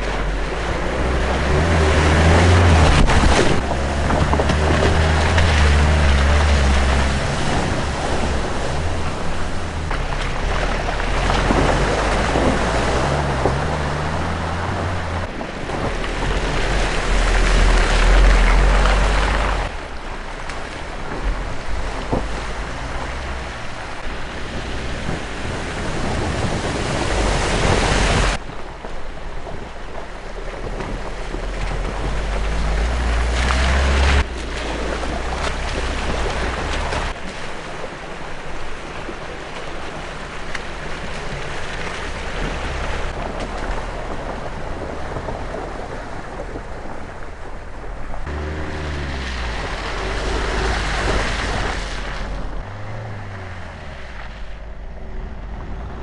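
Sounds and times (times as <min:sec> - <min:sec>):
car engine: 0:00.0 - 0:37.4, 0:38.5 - 0:56.0
water splashing from wheels: 0:00.0 - 0:56.0.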